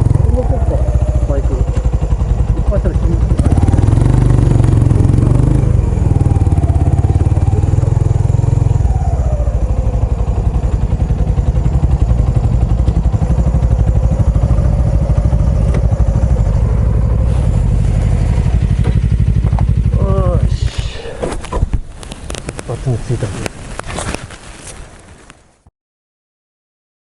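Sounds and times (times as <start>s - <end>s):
motorcycle engine thumping: 0.0s - 22.8s.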